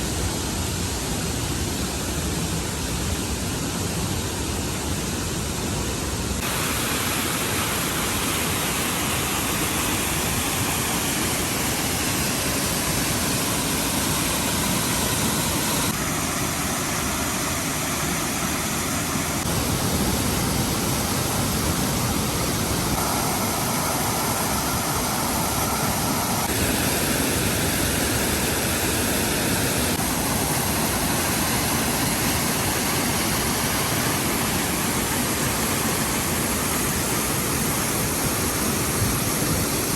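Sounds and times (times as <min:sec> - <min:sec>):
waterfall rushing: 0:06.2 - 0:39.9.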